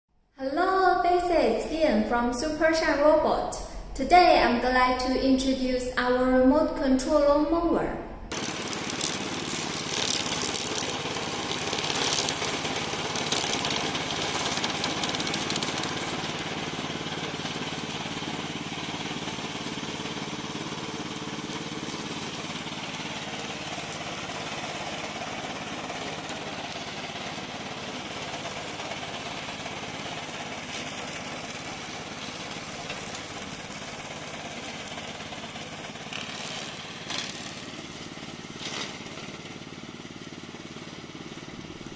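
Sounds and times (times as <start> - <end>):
lawn mower running: 8.3 - 41.9.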